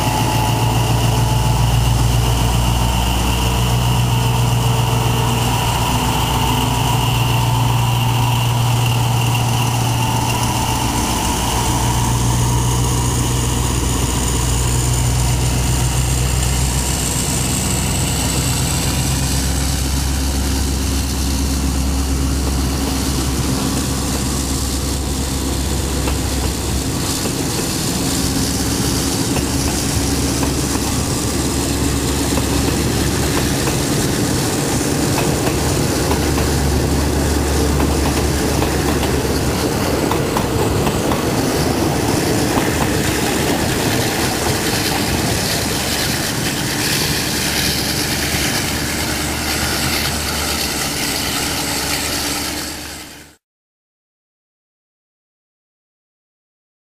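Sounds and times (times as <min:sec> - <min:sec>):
diesel locomotive engine droning: 0:00.0 - 0:53.4
train coaches rolling by: 0:00.0 - 0:53.4.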